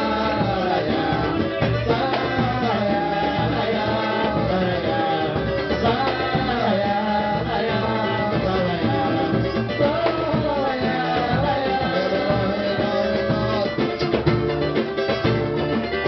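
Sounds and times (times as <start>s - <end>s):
people singing: 0.0s - 15.2s
hand percussion beat: 0.0s - 16.0s
samba band playing: 0.0s - 16.0s.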